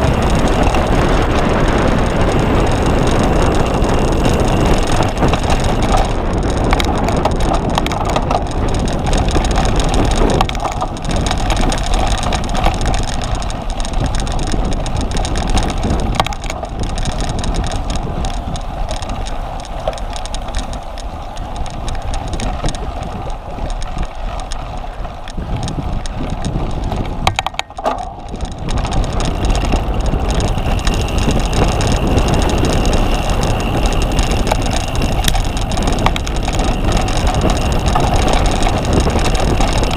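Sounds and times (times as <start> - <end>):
bicycle rattling: 0.0 - 39.9
bicycle riding over rough ground: 0.0 - 39.9
sharp clicks: 3.5 - 39.9.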